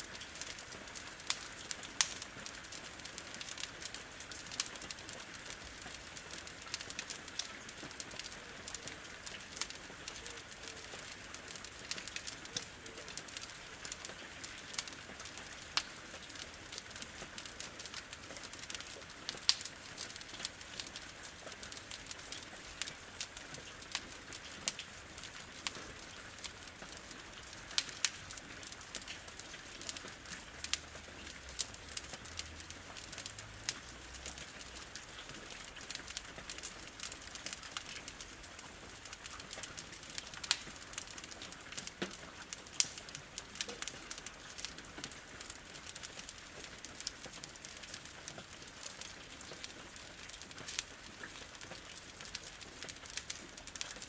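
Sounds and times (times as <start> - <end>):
steady rain: 0.0 - 54.0
wood fire crackling and popping: 0.0 - 54.0.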